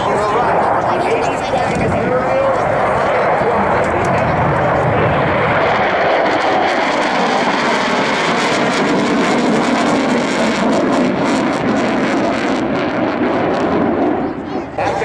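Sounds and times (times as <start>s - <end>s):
jet flying past overhead: 0.0s - 15.0s.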